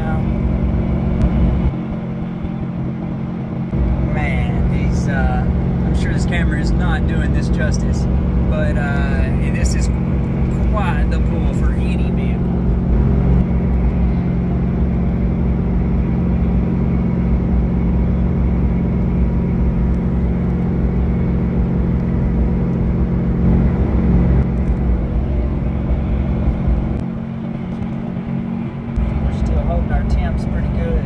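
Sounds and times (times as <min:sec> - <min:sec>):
diesel engine drone: 0:00.0 - 0:31.0
road and wind noise: 0:00.0 - 0:31.0.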